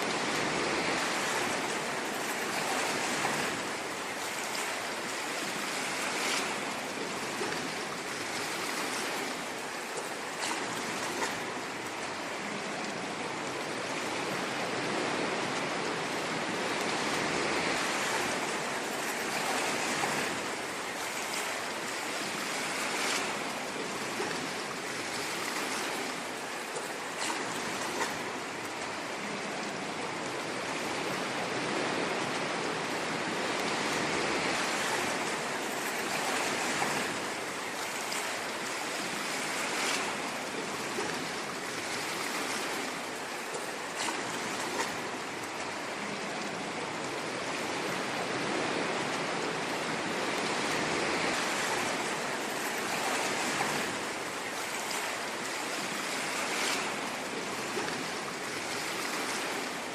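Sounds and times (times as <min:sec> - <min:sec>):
ocean surf washing on shore: 0:00.0 - 0:59.9.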